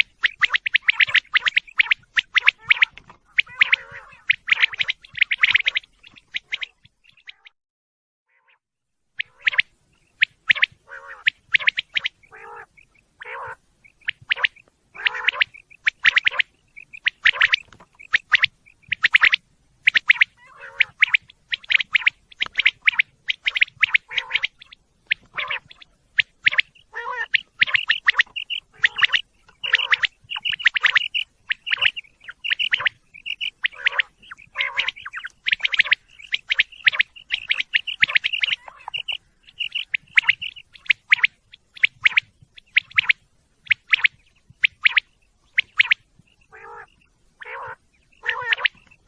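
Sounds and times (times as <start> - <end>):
quail calling: 0.0 - 7.5, 9.2 - 49.0.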